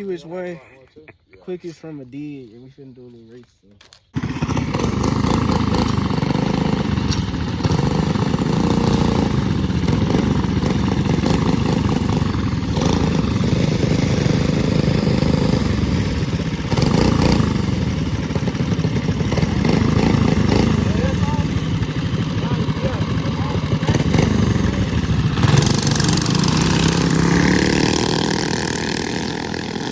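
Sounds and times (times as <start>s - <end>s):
minibike engines racing: 4.1s - 29.9s.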